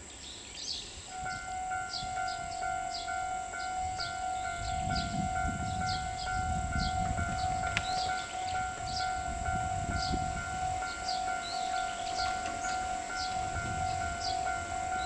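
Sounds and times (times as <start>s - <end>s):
level crossing alarm ringing: 1.1s - 15.0s.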